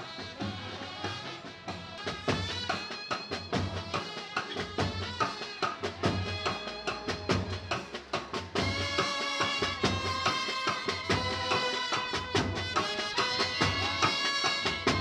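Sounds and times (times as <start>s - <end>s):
brass band with trumpets: 0.0s - 15.0s
steady drum beat: 0.0s - 15.0s.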